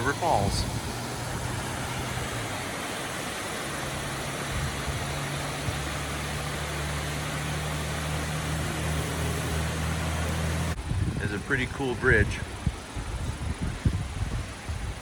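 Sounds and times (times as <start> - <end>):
low engine hum: 0.0 - 15.0
waterfall rushing water: 0.0 - 15.0.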